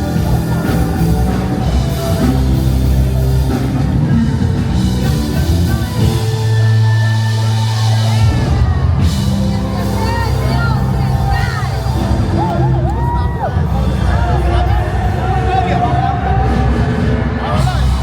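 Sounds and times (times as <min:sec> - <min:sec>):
loud music with bass notes: 0:00.0 - 0:18.0.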